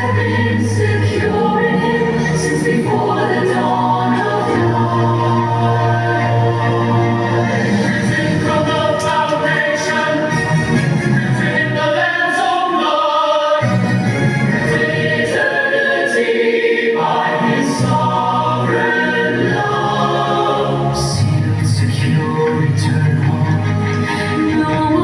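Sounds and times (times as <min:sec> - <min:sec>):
accompaniment with long bass notes: 0:00.0 - 0:12.2, 0:17.0 - 0:25.0
choir singing: 0:00.0 - 0:25.0.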